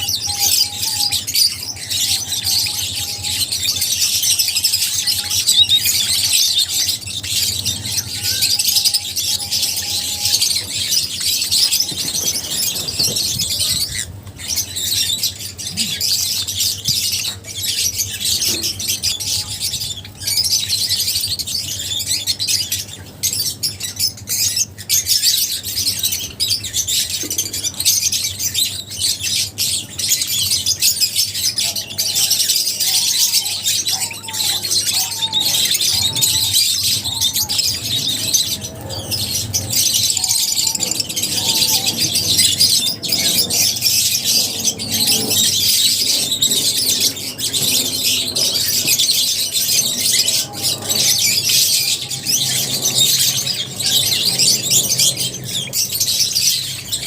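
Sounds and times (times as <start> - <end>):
flock of birds chattering: 0.0 - 57.0.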